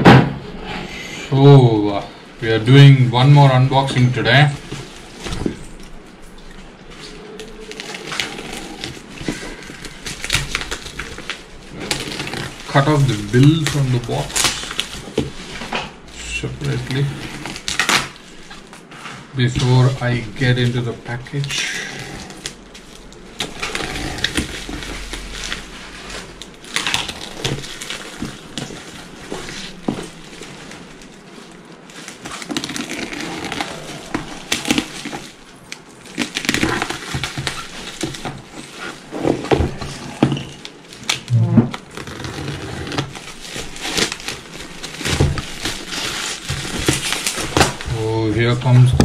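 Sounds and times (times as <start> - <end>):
bubble wrap crinkling: 1.3 - 49.0
packing tape tearing: 3.6 - 49.0.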